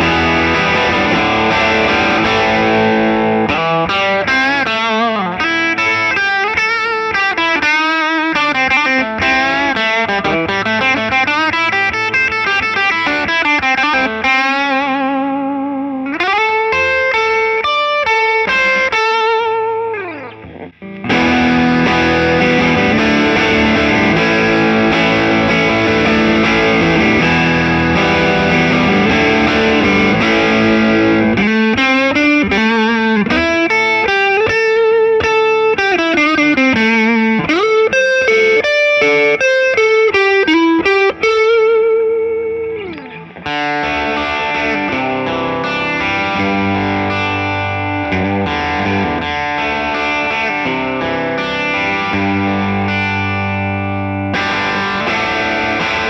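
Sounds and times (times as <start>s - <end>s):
electric guitar chords: 0.0s - 56.0s
electric guitar lead line: 0.0s - 56.0s.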